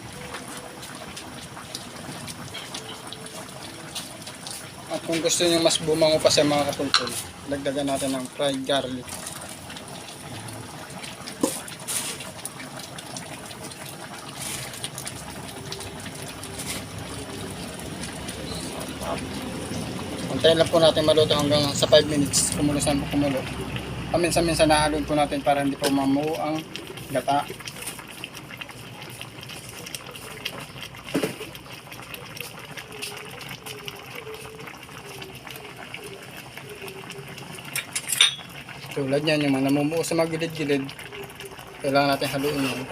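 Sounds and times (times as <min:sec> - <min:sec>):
pot simmering and bubbling: 0:00.0 - 0:42.9.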